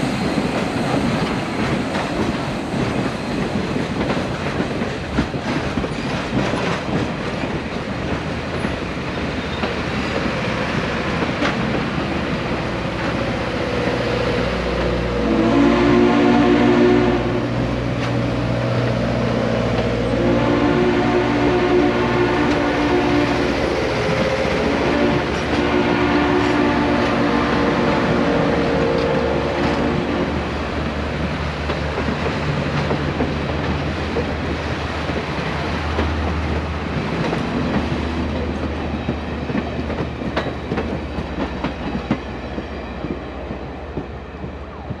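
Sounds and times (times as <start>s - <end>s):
train wheels clicking over rail joints: 0.0s - 15.1s, 17.6s - 20.1s, 22.3s - 45.0s.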